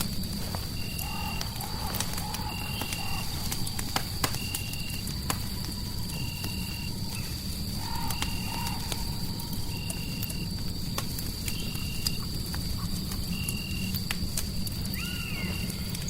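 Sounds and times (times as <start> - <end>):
constant high whine: 0.0 - 16.0
fireplace crackling: 0.0 - 16.0.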